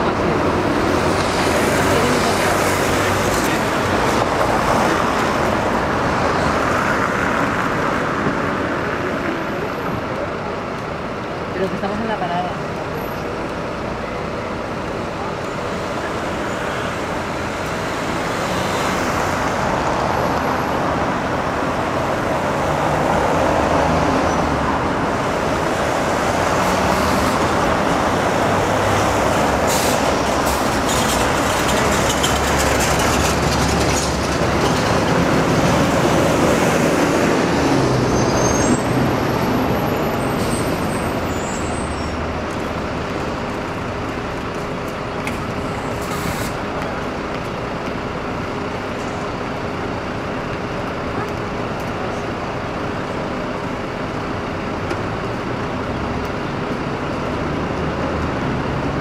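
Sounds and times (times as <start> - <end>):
bus engine running: 0.0 - 59.0
city street traffic: 0.0 - 59.0.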